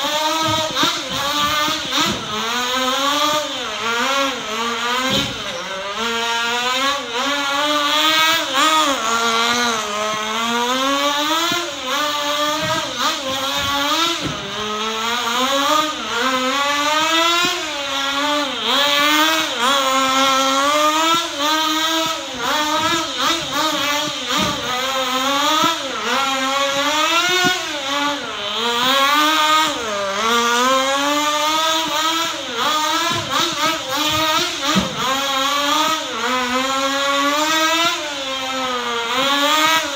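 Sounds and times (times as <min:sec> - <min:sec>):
rc car engine revving: 0:00.0 - 0:39.9.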